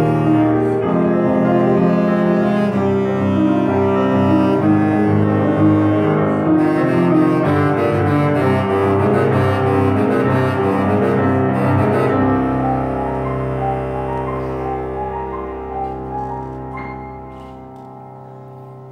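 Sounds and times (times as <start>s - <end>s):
bass clarinet melody: 0.0s - 18.9s
grand piano chords: 0.0s - 18.9s.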